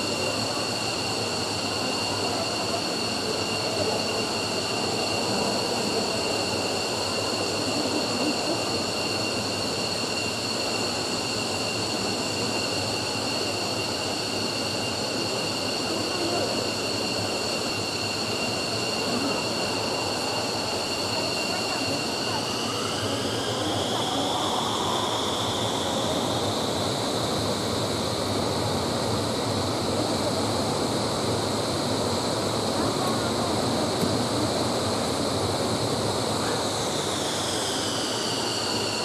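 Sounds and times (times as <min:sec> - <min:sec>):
jet engine whine and rush: 0:00.0 - 0:39.0.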